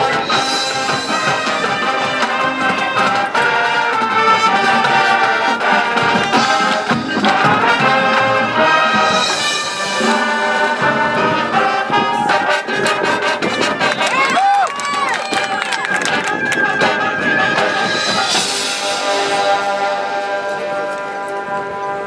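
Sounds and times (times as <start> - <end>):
marching band brass playing: 0.0 - 22.0.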